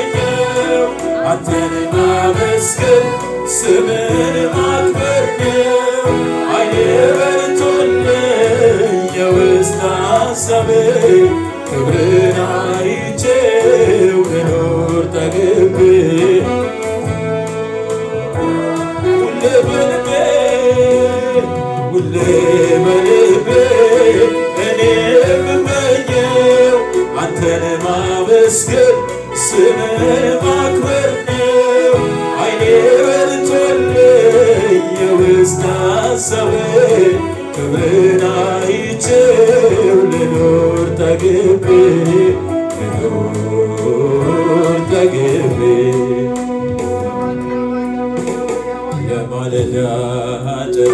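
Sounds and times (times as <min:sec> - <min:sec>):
instrumental accompaniment: 0:00.0 - 0:50.9
man singing into a microphone: 0:00.0 - 0:50.9.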